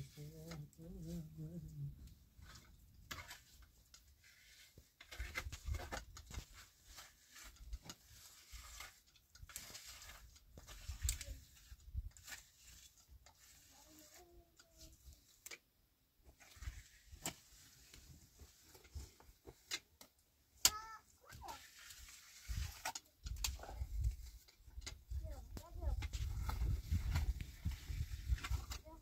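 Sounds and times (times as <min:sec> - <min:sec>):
trowel scraping mud plaster: 0:02.4 - 0:15.5, 0:16.3 - 0:19.9, 0:21.3 - 0:25.1, 0:25.9 - 0:29.0.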